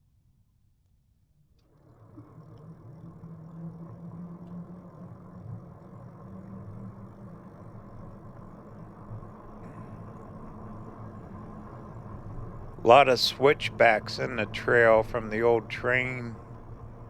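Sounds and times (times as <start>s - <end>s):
electric motor hum: 1.6s - 17.0s.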